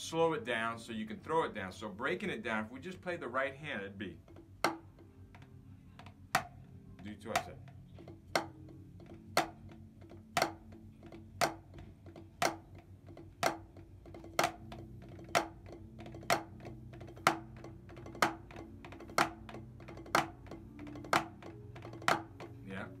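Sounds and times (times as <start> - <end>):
drumsticks on practice pads: 3.8 - 23.0.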